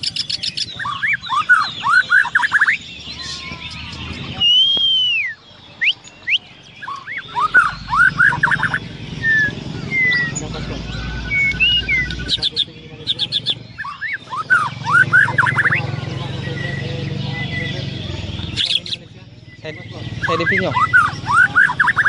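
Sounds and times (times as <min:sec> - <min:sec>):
bird singing whistled notes: 0:00.0 - 0:22.0.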